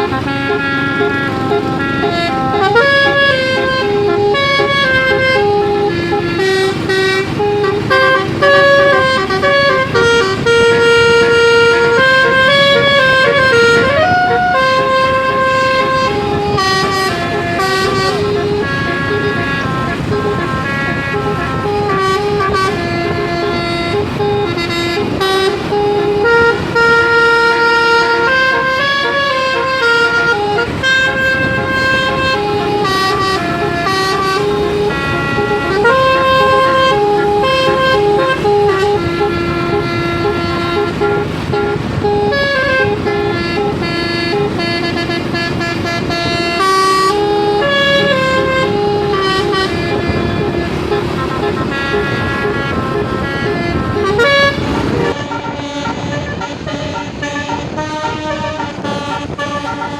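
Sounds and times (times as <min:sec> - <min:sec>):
engine and traffic rumble: 0:00.0 - 0:59.9
musical air horn playing tune: 0:00.0 - 0:59.9.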